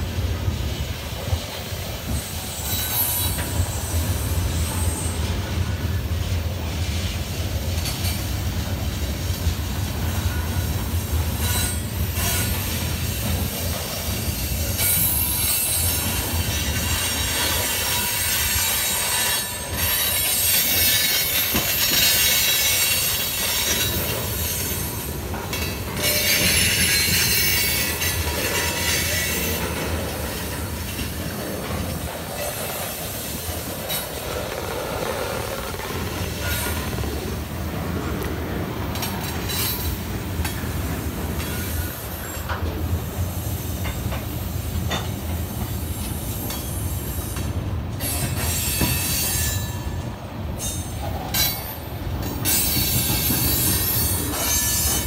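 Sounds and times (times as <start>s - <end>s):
low rumble of wheels on rail: 0.0s - 55.0s
train wheels squealing: 0.7s - 6.2s, 6.9s - 38.2s, 38.9s - 55.0s.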